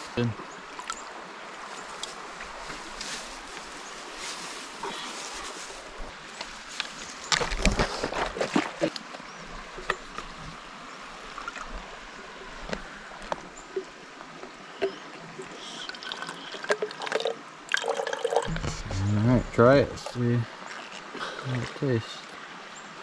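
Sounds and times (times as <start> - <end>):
river flowing: 0.0 - 23.0
water trickling into plastic bottle: 0.7 - 10.6, 11.2 - 21.9.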